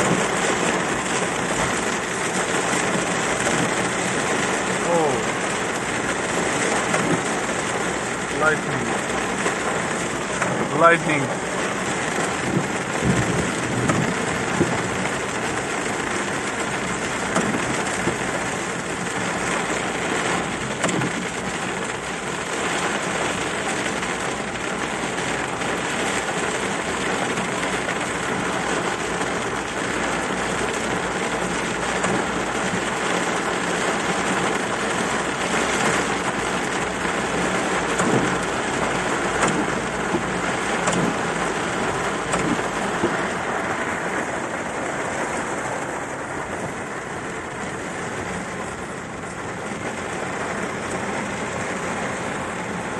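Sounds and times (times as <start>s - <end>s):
heavy rain on car roof: 0.0s - 52.9s.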